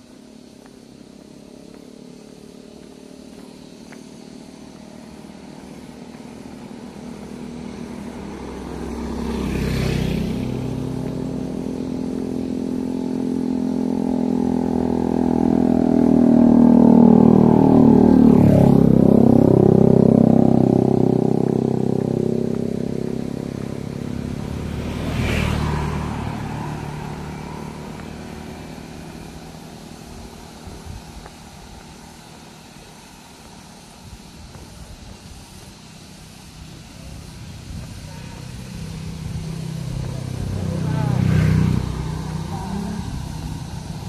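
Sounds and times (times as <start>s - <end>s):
motorcycle engine passing: 0.0s - 44.0s.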